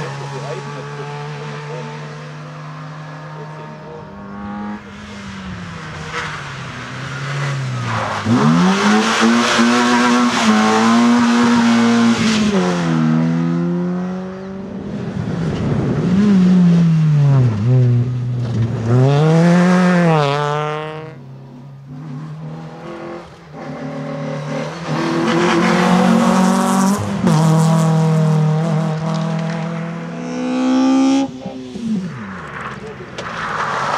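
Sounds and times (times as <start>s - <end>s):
rally car engines revving: 0.0s - 33.9s.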